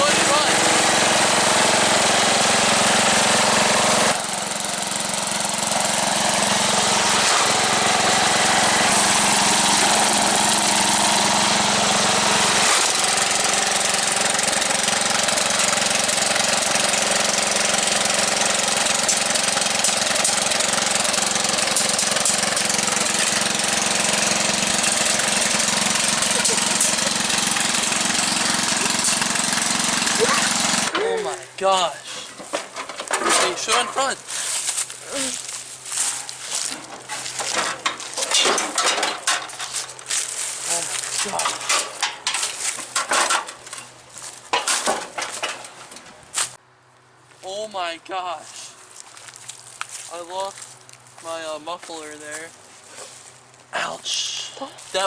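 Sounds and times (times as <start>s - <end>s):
lawn tractor engine running: 0.0s - 46.6s, 54.2s - 55.0s.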